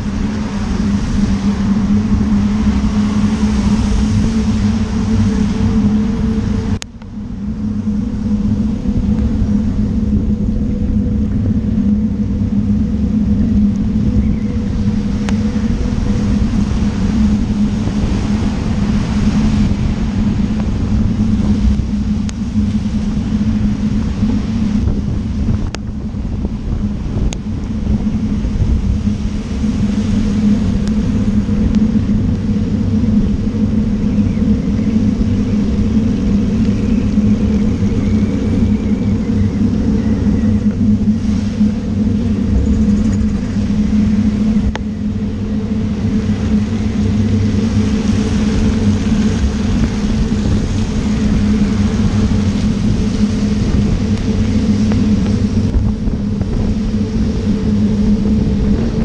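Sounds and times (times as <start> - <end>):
wet road traffic rumble: 0.0 - 59.0
wind on camera: 0.0 - 59.0.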